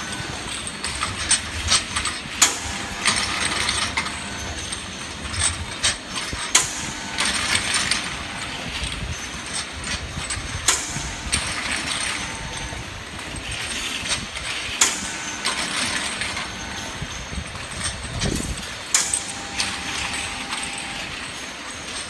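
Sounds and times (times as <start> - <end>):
machinery humming: 0.0 - 22.0
sharp mechanical clacks: 0.0 - 22.0.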